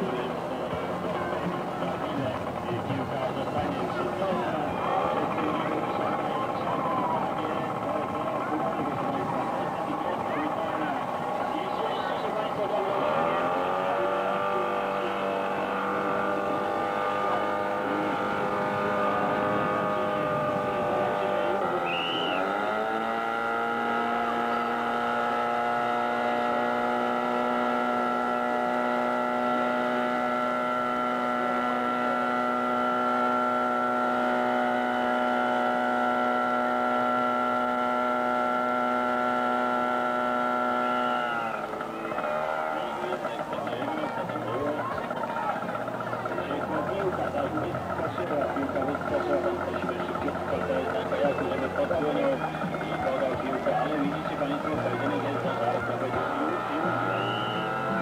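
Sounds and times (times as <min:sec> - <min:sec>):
pump engine running at high revs: 0:00.0 - 0:58.0.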